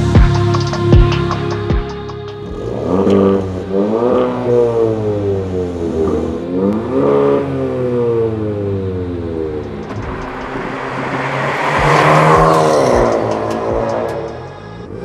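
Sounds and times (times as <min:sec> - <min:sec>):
car exhaust accelerating: 0:02.3 - 0:15.0.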